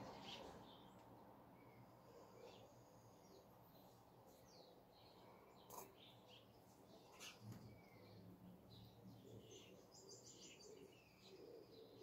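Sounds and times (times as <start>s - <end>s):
low steady background hum: 0.0s - 12.0s
small birds chirping: 0.0s - 12.0s.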